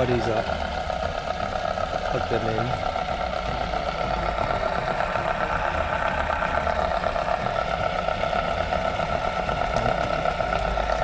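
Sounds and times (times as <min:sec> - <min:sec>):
motor whirring hum: 0:00.0 - 0:11.0.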